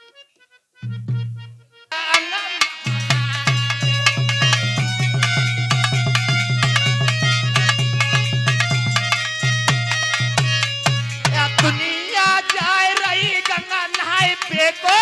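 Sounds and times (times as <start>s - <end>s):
harmonium held notes: 0.0s - 15.0s
dholak rapid strokes: 2.0s - 15.0s.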